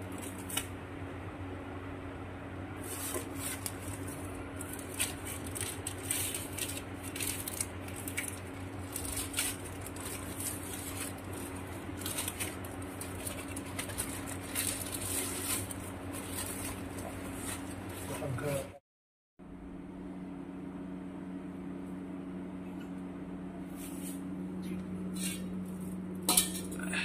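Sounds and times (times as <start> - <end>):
steady low hum: 0.0 - 18.8, 19.4 - 27.0.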